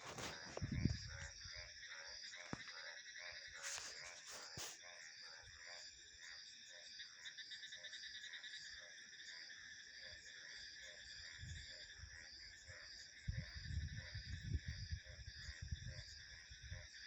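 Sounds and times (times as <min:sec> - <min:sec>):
crickets and insects trilling: 0:00.0 - 0:17.0
frogs croaking: 0:00.0 - 0:17.0.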